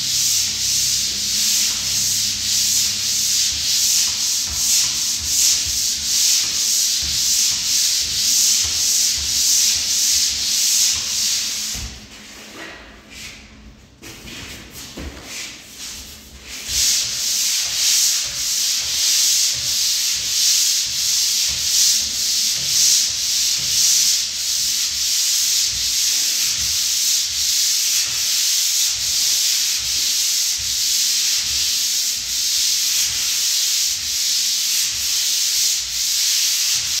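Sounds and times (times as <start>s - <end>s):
pole sander rasping on ceiling: 0.0s - 13.4s, 14.0s - 37.0s.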